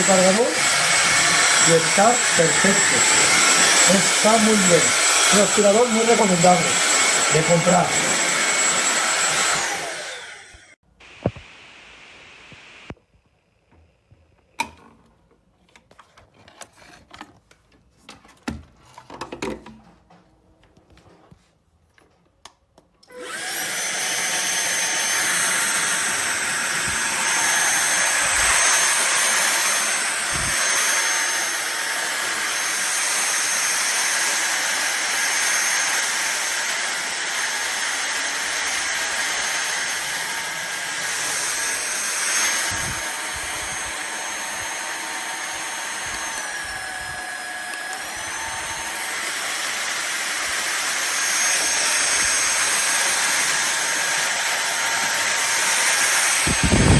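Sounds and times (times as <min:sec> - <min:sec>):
vacuum cleaner motor whine: 0:00.0 - 0:13.0, 0:23.0 - 0:56.9.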